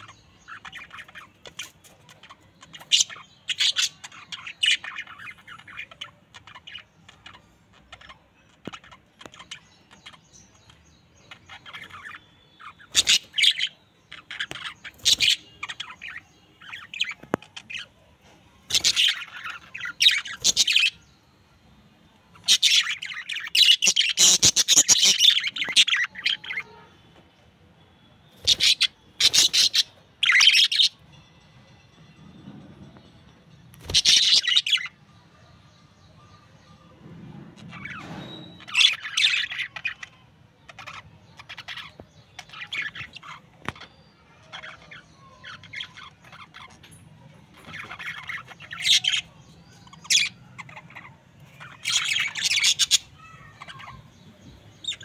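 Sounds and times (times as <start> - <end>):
budgerigars chirping and chattering: 0.0 - 21.0, 22.3 - 26.9, 28.3 - 31.1, 33.8 - 35.0, 37.6 - 55.0.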